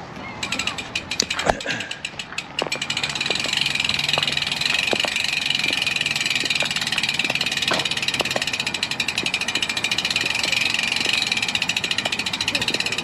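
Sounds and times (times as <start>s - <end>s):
bicycle freewheel ticking: 0.4s - 13.0s.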